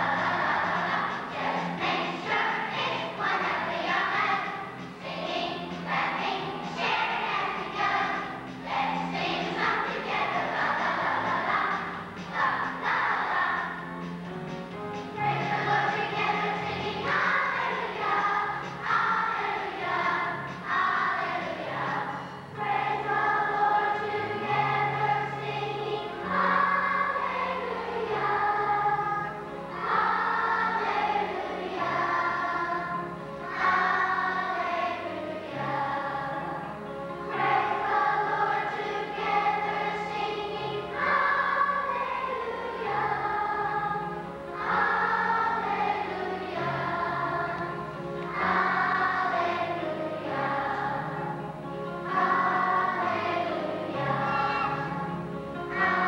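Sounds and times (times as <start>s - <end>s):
children's choir singing: 0.0s - 56.0s
instrumental accompaniment: 0.0s - 56.0s.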